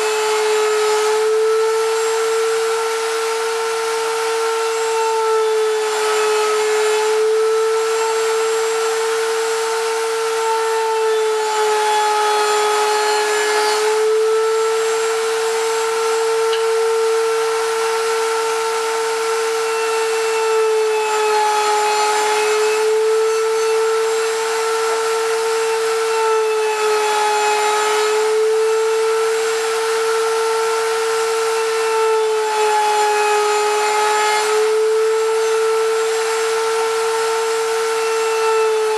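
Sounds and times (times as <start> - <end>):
electric router whining: 0.0 - 38.9
router bit cutting wood: 0.0 - 38.9.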